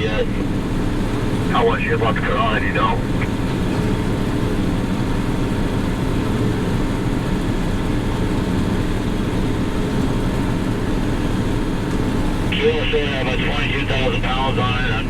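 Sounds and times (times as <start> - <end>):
combine machine drone: 0.0 - 15.0.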